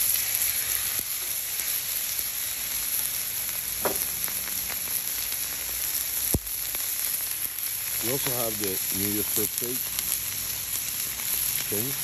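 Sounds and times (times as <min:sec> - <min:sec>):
steak sizzling on a griddle: 0:00.0 - 0:12.0.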